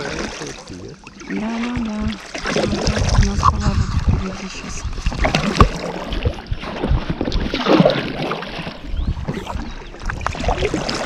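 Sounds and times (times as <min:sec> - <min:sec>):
paddle strokes splashing water: 0:00.0 - 0:11.0
wind rumbling on microphone: 0:01.6 - 0:11.0.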